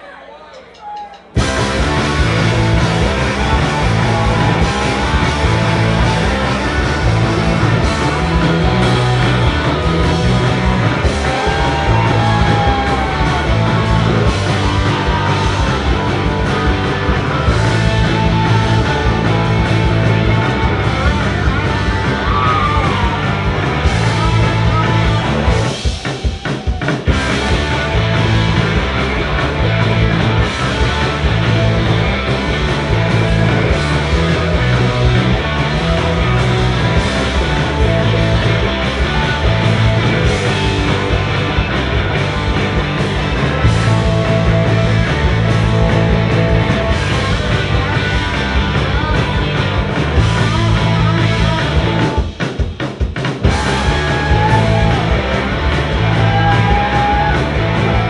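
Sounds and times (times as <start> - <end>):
rock band electric guitars: 1.4 - 58.0.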